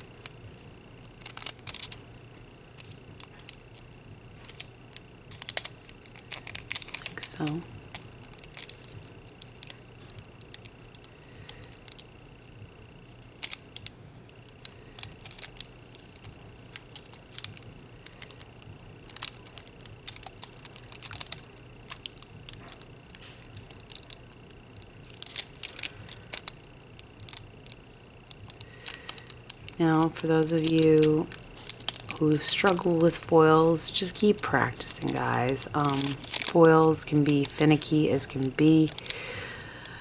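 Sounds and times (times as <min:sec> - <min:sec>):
foil clicks and crinkly ticks: 0:00.0 - 0:40.0.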